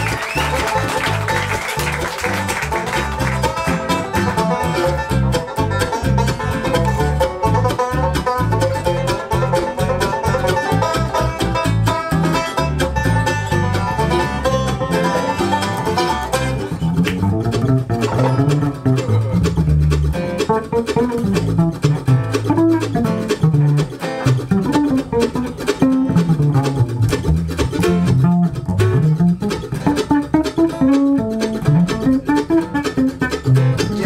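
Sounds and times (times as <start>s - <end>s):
banjo and mandolin picking: 0.0s - 34.0s
bass guitar beat: 0.0s - 34.0s
bluegrass string band playing: 0.0s - 34.0s.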